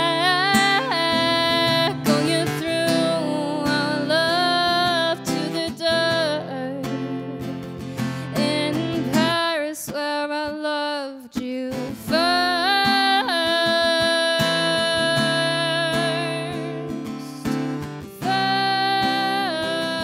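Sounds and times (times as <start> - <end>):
strummed acoustic guitar: 0.0 - 10.3, 11.4 - 20.0
woman singing: 0.0 - 20.0.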